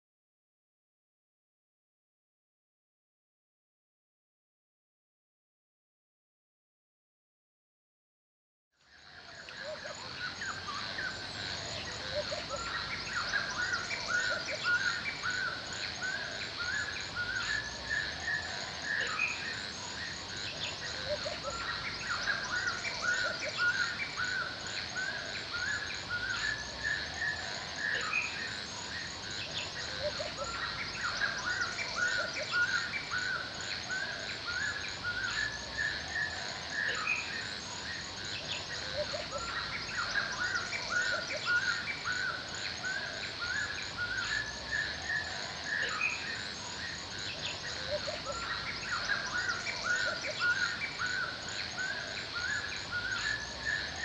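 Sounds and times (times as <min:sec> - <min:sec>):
high continuous twittering: 0:08.8 - 0:54.0
background hiss: 0:08.9 - 0:54.0
birds chirping and calling: 0:09.4 - 0:54.0.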